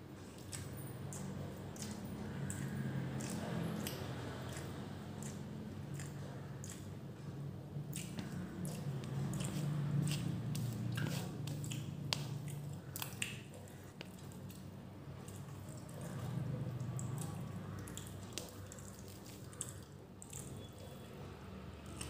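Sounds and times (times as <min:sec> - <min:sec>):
fingers squishing food: 0:00.2 - 0:21.1, 0:21.8 - 0:22.0.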